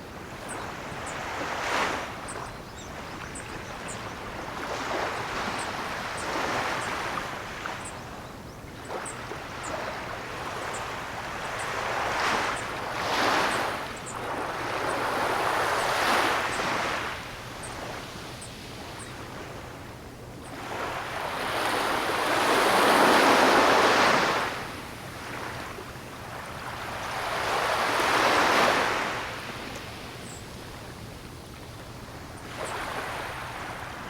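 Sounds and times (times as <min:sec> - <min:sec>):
ocean waves breaking on shore: 0:00.0 - 0:34.0.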